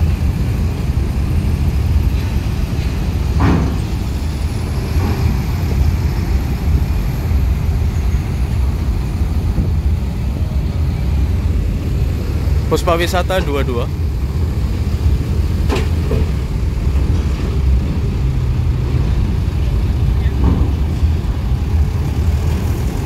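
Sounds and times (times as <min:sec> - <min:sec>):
coach engine rumbling: 0:00.0 - 0:23.0.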